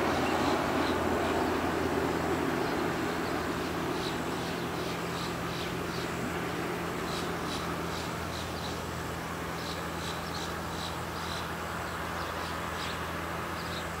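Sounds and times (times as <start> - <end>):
distant turboprop engines droning: 0.0 - 14.0.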